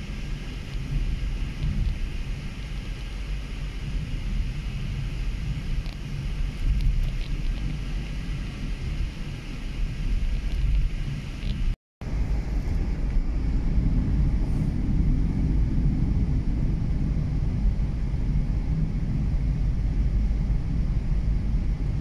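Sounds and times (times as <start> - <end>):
engine hum: 0.0 - 22.0
tyre and road noise: 0.0 - 22.0.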